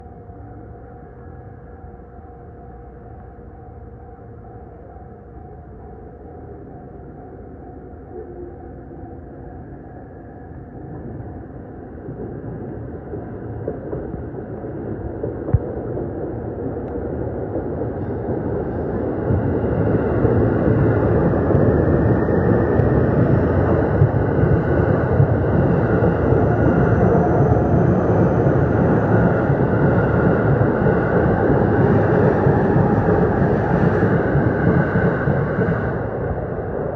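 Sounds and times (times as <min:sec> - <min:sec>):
electric train passing: 0:00.0 - 0:36.9.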